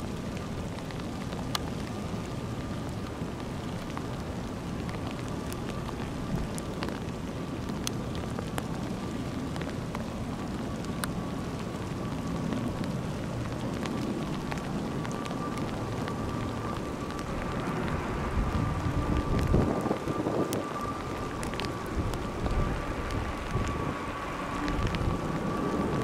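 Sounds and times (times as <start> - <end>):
distant propeller plane drone: 0.0 - 26.0
wind hiss: 0.0 - 26.0.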